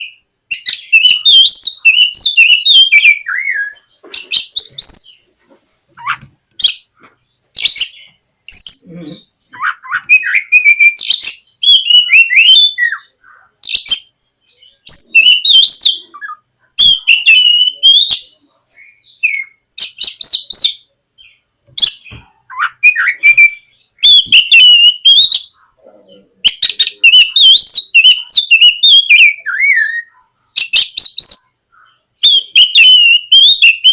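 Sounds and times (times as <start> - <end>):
bird singing loudly: 0.0 - 5.2, 6.0 - 33.9.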